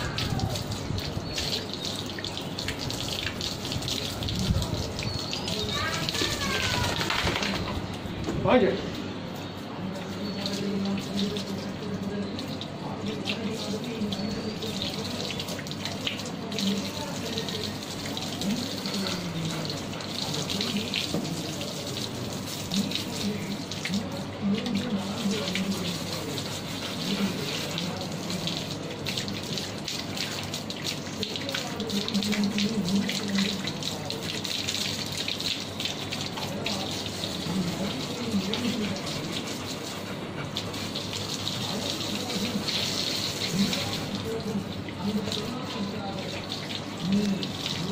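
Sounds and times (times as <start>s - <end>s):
hose water spraying on dog: 0.0s - 47.9s
water splashing on concrete: 0.0s - 47.9s.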